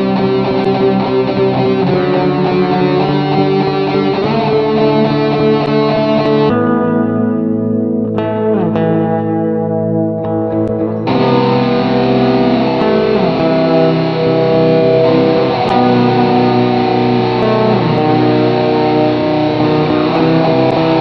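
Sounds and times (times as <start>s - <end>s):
guitar chords with sliding notes: 0.0s - 21.0s.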